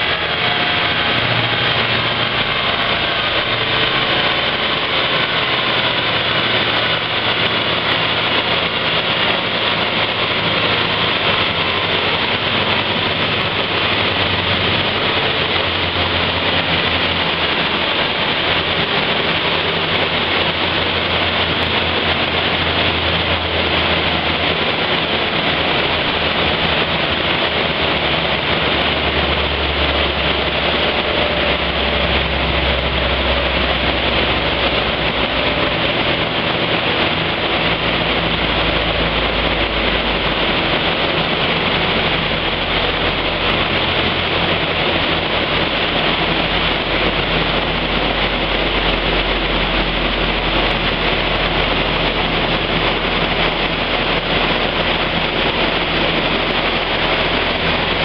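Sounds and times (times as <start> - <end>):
car engine running under load: 0.0 - 58.0
loud rushing noise: 0.0 - 58.0.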